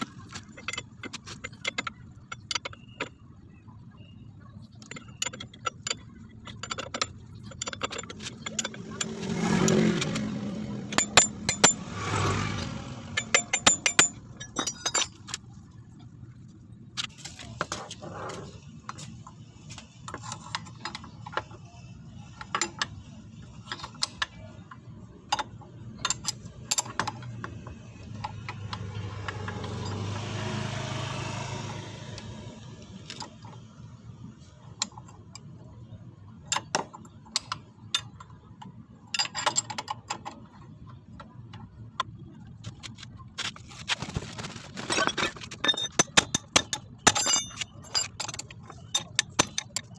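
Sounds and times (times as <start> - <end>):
metal tools clinking: 0.0 - 3.2, 4.7 - 15.8, 17.0 - 33.6, 39.0 - 41.2, 42.7 - 49.9.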